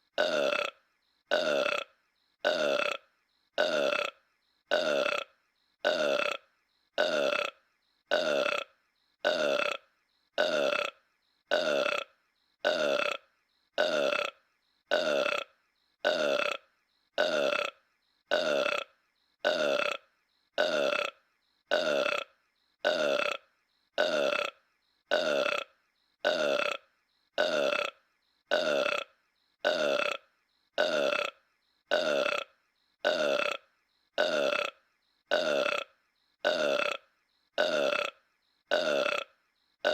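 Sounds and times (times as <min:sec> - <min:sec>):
cartoon burp: 0:00.1 - 0:39.9.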